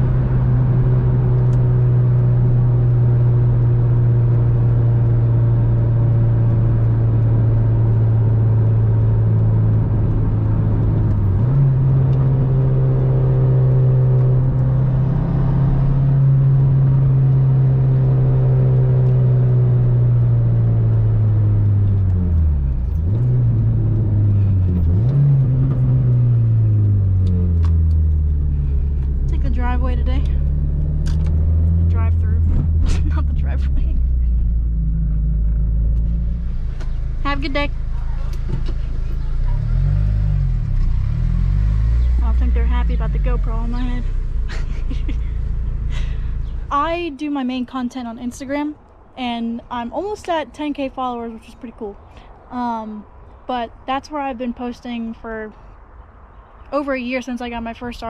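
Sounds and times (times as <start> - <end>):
car engine droning: 0.0 - 58.0
road noise: 0.0 - 58.0.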